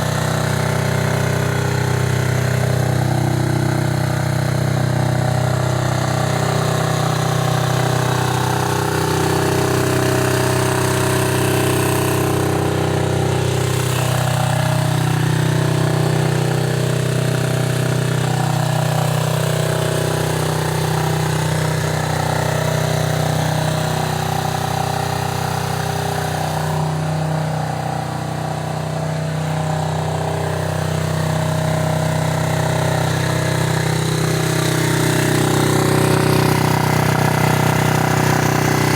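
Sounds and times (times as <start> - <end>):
small motorbike engine idling: 0.0 - 38.9.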